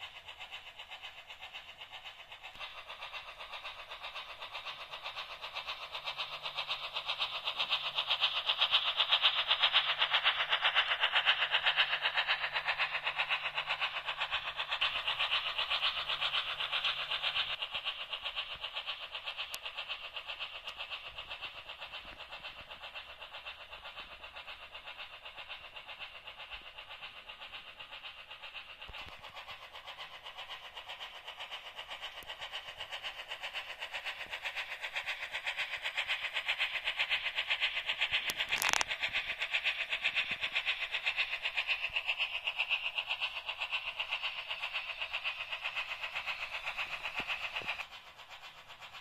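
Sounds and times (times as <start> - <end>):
model train clattering on track: 0.0 - 49.0.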